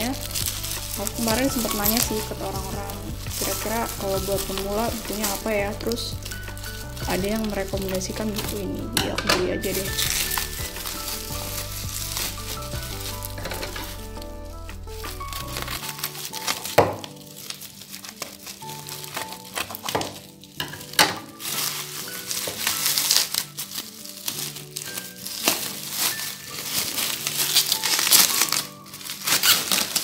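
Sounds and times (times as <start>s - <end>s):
bubble wrap crinkling: 0.0s - 30.0s
soft background music: 0.0s - 30.0s.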